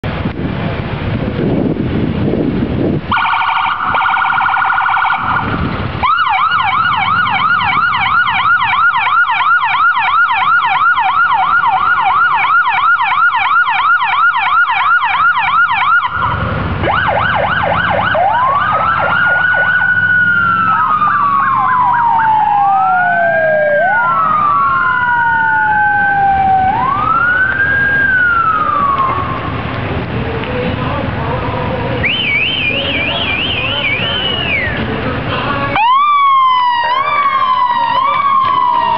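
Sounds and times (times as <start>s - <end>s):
police sirens warbling and wailing: 3.1s - 29.8s, 32.0s - 38.9s.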